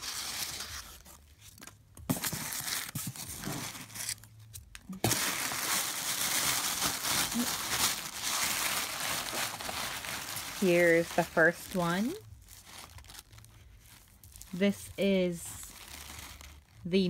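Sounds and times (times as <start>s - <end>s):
tissue paper rustling: 0.0s - 4.2s, 4.9s - 16.8s.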